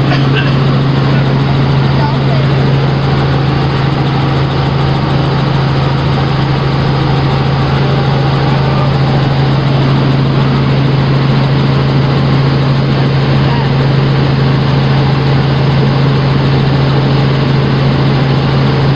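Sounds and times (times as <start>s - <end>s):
helicopter engine and rotor drone: 0.0s - 18.9s.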